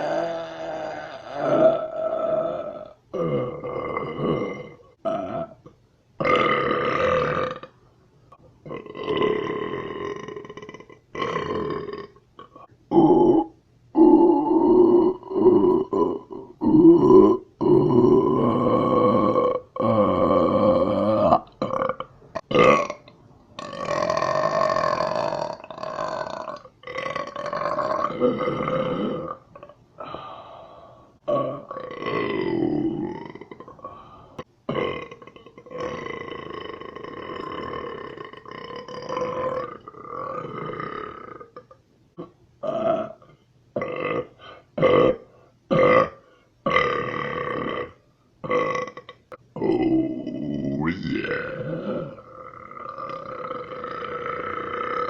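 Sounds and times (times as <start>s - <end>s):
person burping: 0.0s - 7.8s, 8.4s - 30.3s, 31.2s - 55.0s.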